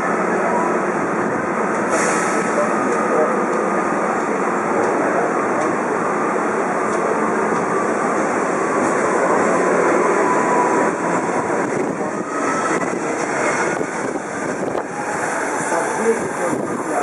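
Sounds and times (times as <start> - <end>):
train wheels rushing on rails: 0.0 - 17.0
traction motor whine: 2.7 - 17.0.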